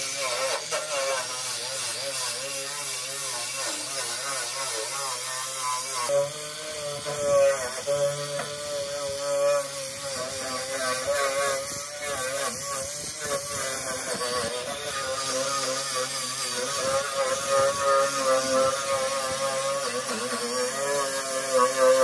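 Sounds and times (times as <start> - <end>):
angle grinder wire brush on metal: 0.0 - 22.0.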